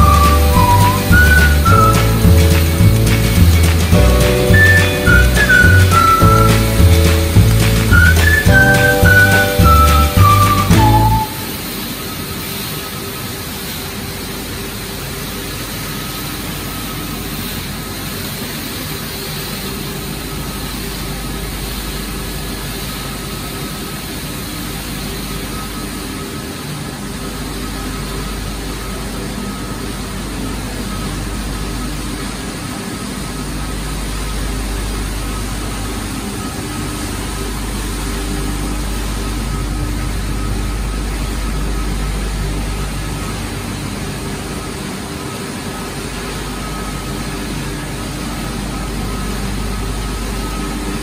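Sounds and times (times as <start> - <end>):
industrial machinery humming: 0.0 - 51.0.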